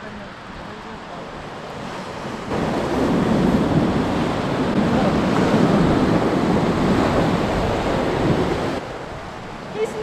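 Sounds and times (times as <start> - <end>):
waves breaking against rock: 0.3 - 10.0
wind buffeting microphone: 0.6 - 10.0.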